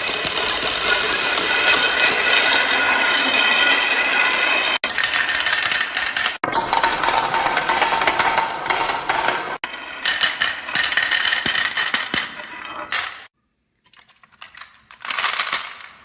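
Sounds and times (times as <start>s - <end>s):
marbles rattling along tracks: 0.0s - 2.9s, 4.8s - 13.3s, 14.0s - 16.0s.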